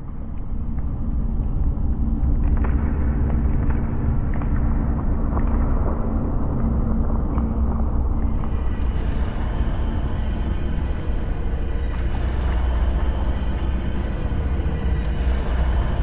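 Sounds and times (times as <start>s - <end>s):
deep rumble: 0.2s - 16.0s.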